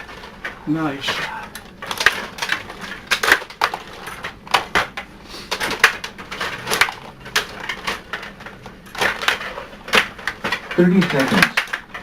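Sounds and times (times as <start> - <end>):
table hockey plastic clicks: 1.5 - 12.0.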